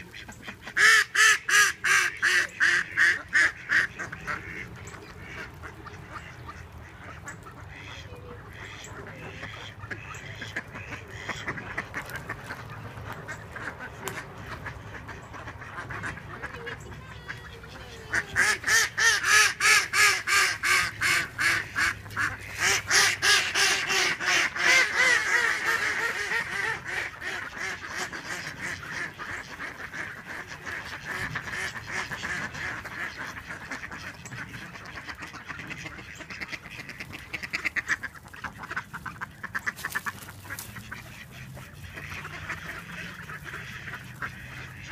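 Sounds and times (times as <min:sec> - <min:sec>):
ducks quacking: 0:00.0 - 0:44.9.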